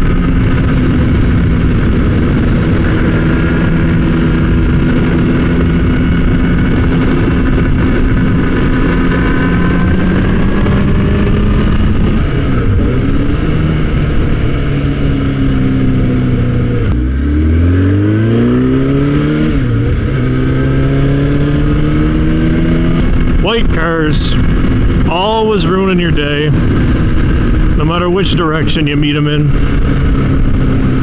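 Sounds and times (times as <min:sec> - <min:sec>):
motorcycle engine revving: 0:00.0 - 0:31.0
wind and road noise: 0:00.0 - 0:31.0.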